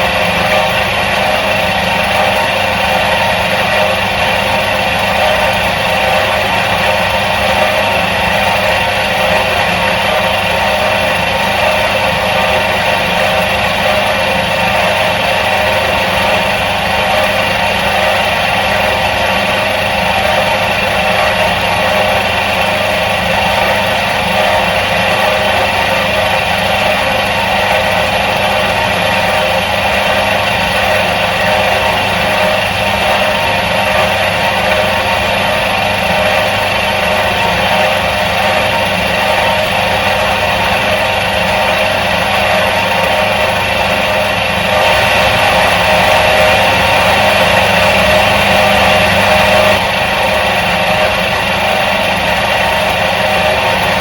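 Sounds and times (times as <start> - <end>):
washing machine motor humming: 0.0 - 54.0.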